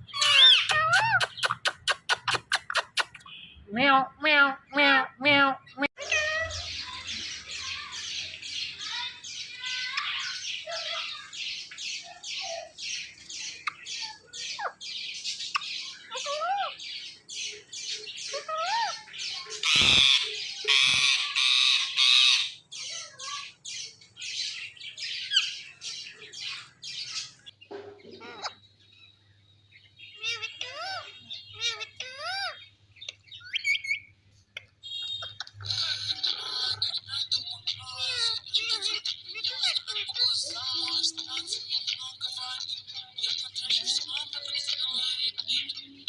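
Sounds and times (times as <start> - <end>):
parrot squawking: 0.0 - 23.6, 24.2 - 28.6, 30.1 - 46.0.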